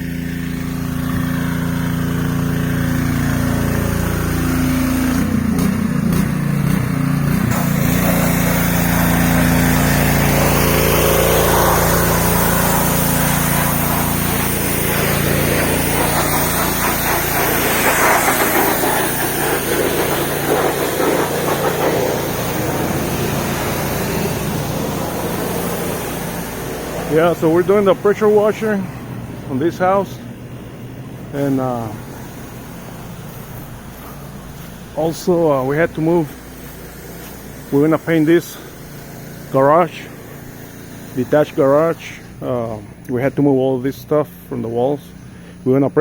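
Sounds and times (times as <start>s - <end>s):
water spray hissing: 0.0s - 43.3s
small engine running: 0.0s - 45.6s.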